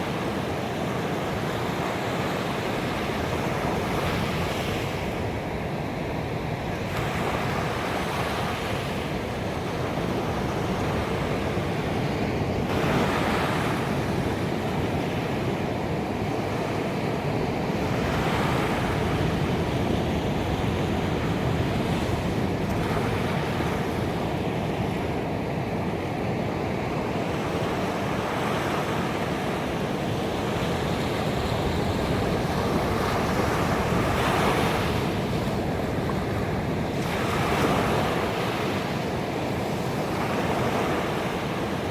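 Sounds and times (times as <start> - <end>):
surf washing on beach: 0.0 - 41.9.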